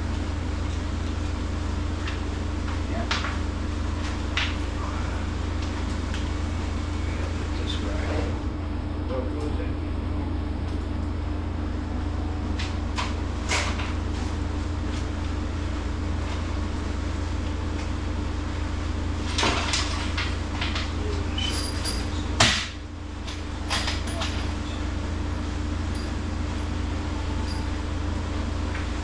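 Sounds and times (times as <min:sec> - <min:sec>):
walk-in cooler humming: 0:00.0 - 0:29.0.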